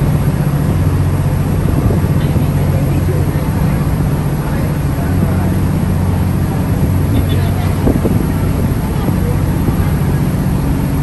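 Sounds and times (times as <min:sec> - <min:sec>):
ferry engine droning: 0:00.0 - 0:11.0.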